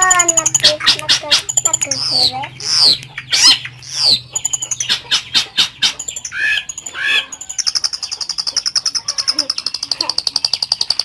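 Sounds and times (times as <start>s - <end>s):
shrike singing harsh chattering song: 0.0s - 11.0s.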